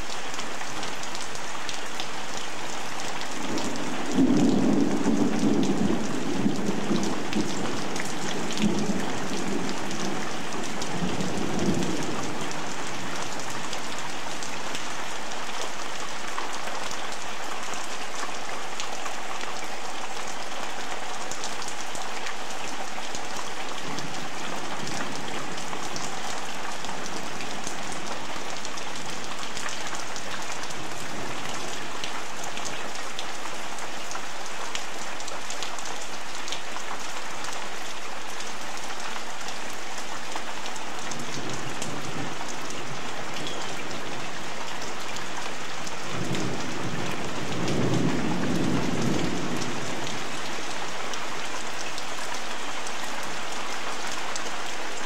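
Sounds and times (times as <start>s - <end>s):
heavy rain splashing on concrete: 0.0s - 55.0s.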